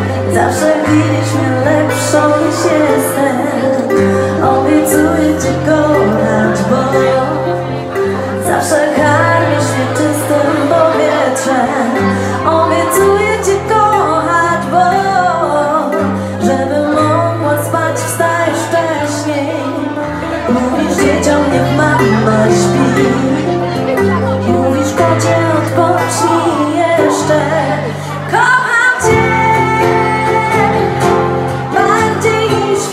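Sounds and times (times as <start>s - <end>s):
strummed acoustic guitars: 0.0s - 32.9s
woman singing: 0.0s - 32.9s.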